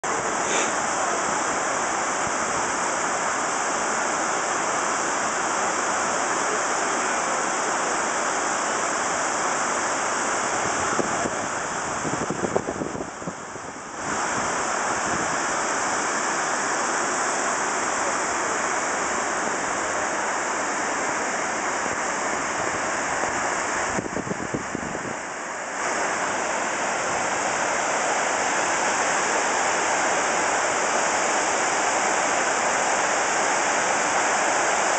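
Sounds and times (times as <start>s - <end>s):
waterfall rushing into basin: 0.0s - 34.9s.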